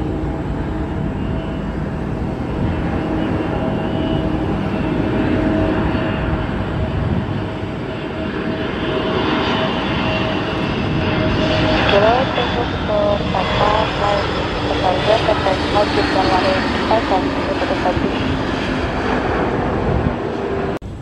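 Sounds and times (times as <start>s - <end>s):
airliner engines whining: 0.0s - 21.0s
rushing rumble: 0.0s - 21.0s.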